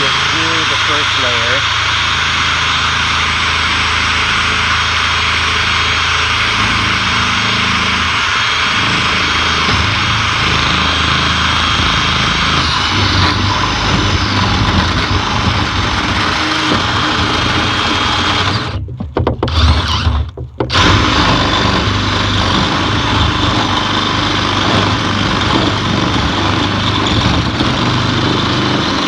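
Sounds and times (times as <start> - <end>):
power drill boring through metal: 0.0 - 29.0.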